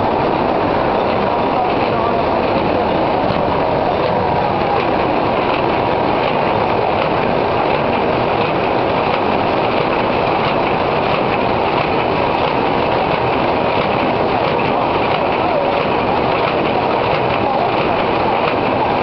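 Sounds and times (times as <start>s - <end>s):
bag making machine running: 0.0s - 19.0s.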